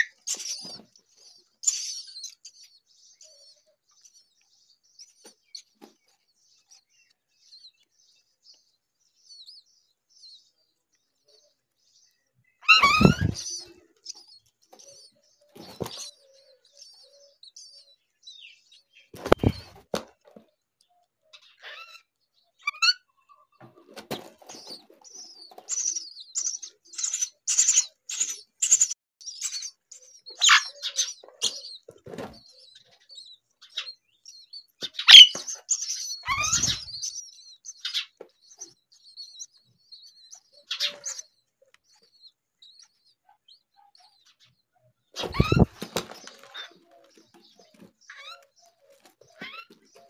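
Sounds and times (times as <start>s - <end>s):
sweeping bird calls: 0.0s - 8.7s, 11.2s - 19.9s, 21.3s - 50.0s
nestlings begging chirps: 0.0s - 10.5s, 11.3s - 20.0s, 24.1s - 44.5s, 45.2s - 50.0s.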